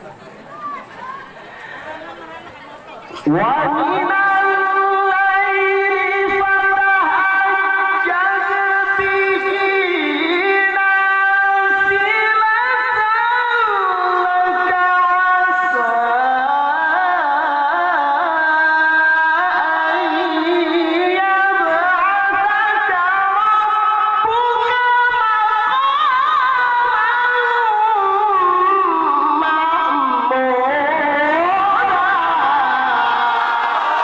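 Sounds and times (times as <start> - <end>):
man reciting melodically: 3.2 - 33.0.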